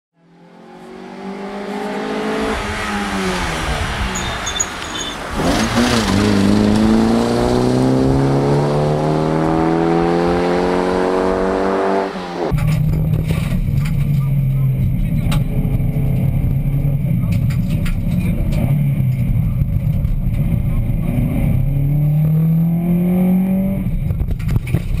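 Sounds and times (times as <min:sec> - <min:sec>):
rally car engine revving: 0:00.2 - 0:25.0.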